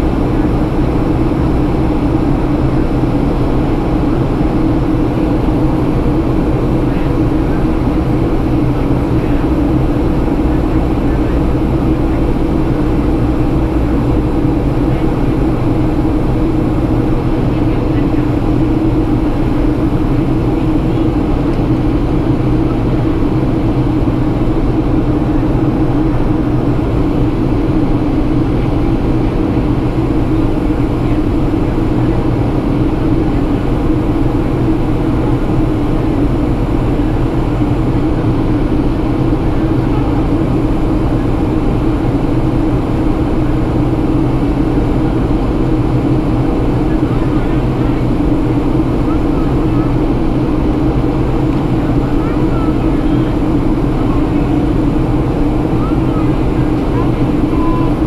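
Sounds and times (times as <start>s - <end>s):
airplane cabin noise: 0.0s - 58.0s.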